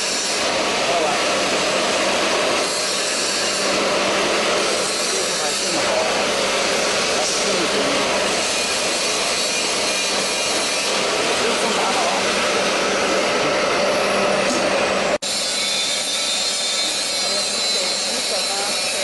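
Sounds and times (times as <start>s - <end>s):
hot-air blowers rushing: 0.0s - 19.0s.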